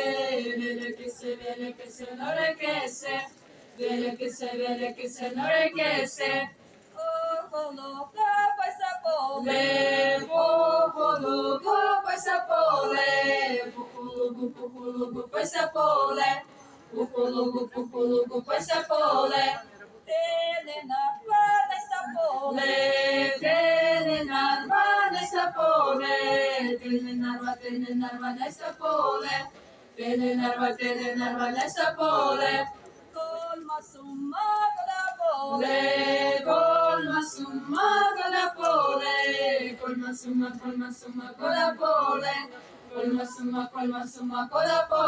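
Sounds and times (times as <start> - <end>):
group singing a cappella: 0.0 - 45.0.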